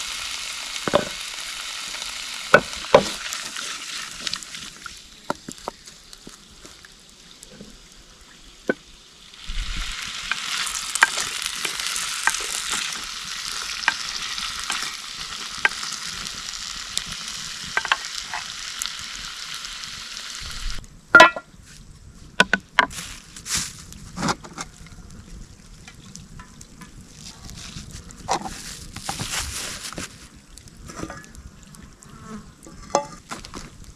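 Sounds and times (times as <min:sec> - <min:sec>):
food sizzling over campfire: 0:00.0 - 0:33.9.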